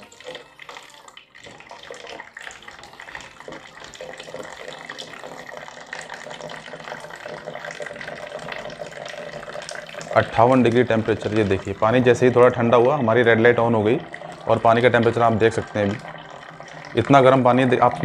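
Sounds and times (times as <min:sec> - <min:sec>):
water trickling into plastic jug: 0:00.0 - 0:18.0.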